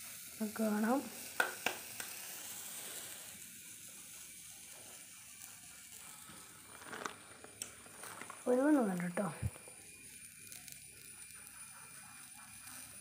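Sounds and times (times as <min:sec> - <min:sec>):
faint steady hiss of heating: 0:00.0 - 0:13.0.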